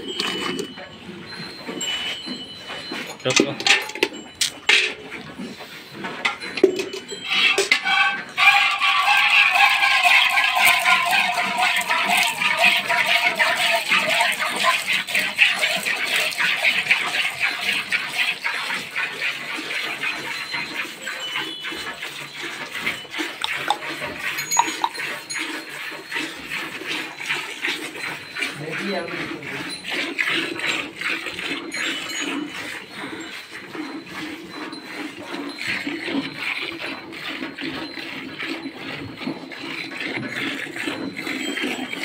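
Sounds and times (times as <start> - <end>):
milk squirting into steel bucket: 0.0 - 0.7, 6.6 - 42.0
bucket ringing: 0.0 - 42.0.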